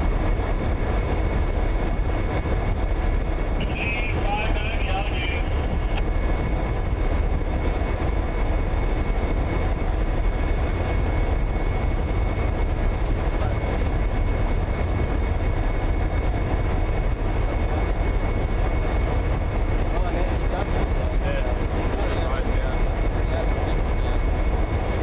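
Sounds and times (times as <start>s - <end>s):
diesel locomotives rumbling: 0.0s - 25.0s
faint steady whines: 0.0s - 25.0s.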